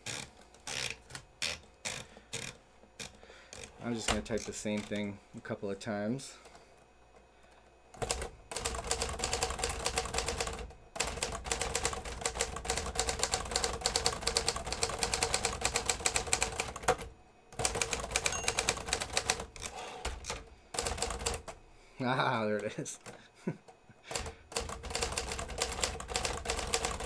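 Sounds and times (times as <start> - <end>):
typewriter keystrokes clattering: 0.0 - 5.2, 8.0 - 21.6, 24.1 - 27.0.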